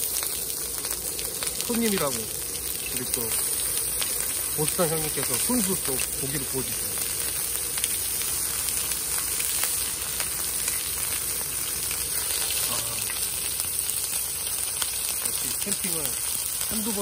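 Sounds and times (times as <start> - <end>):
pork sizzling and crackling: 0.0 - 17.0.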